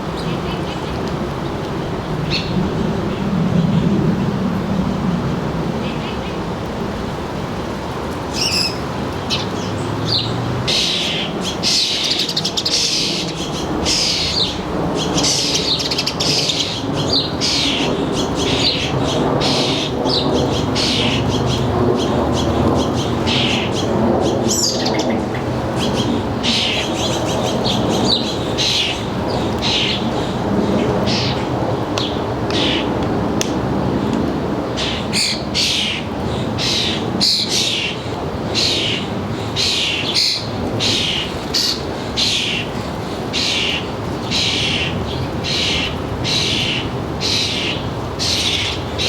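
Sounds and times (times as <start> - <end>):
songbirds chirping: 5.7 - 33.1, 33.9 - 49.0.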